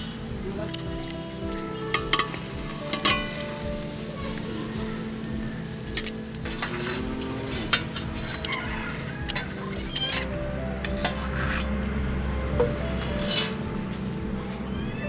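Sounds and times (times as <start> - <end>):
sharp pops and crackles: 0.0 - 14.9
curry boiling and sizzling: 0.0 - 15.0.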